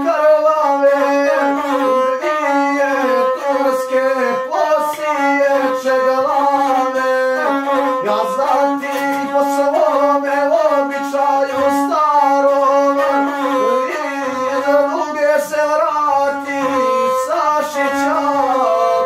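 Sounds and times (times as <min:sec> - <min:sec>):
bowed single-string instrument: 0:00.0 - 0:19.0
person singing: 0:00.0 - 0:19.0.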